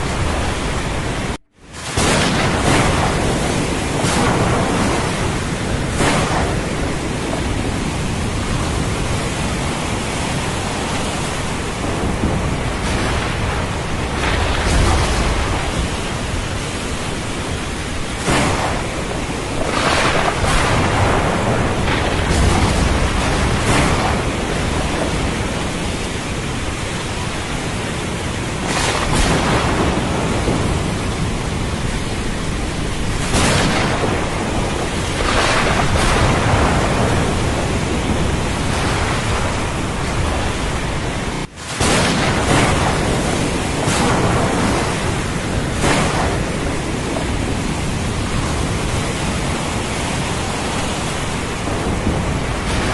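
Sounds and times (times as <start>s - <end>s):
rain: 0.0s - 52.9s
surf: 0.0s - 52.9s
thunder crashes and rumbles: 0.0s - 52.9s.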